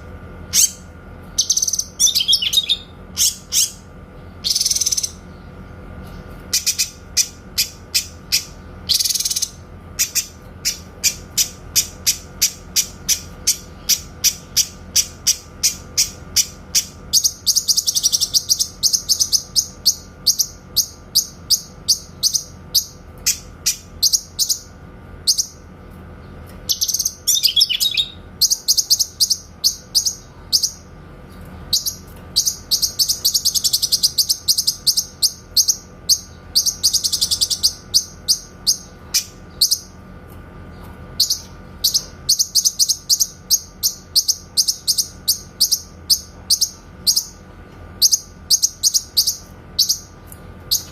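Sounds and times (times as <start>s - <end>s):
bird singing rapid trills: 0.0s - 40.1s, 40.8s - 50.9s.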